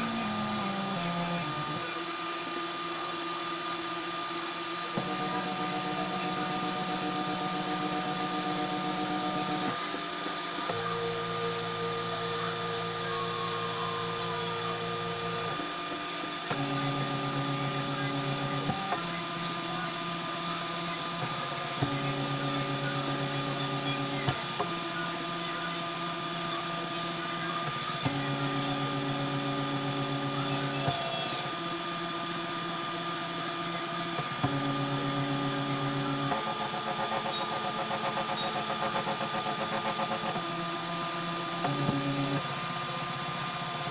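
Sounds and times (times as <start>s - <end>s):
stepper motors whining: 0.0s - 43.9s.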